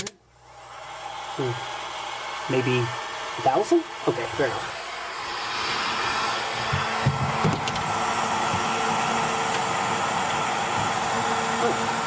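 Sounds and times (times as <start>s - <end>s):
heat gun blowing: 0.4s - 12.0s.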